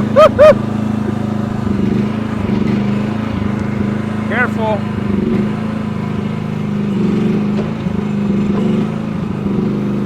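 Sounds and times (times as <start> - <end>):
excavator engine drone: 0.0 - 10.0.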